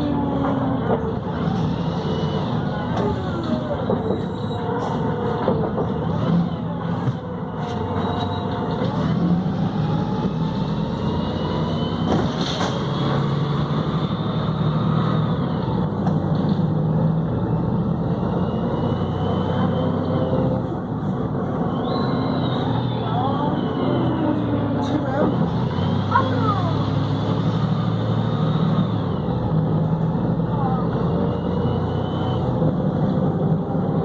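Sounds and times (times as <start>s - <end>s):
bus diesel engine: 0.0s - 34.0s.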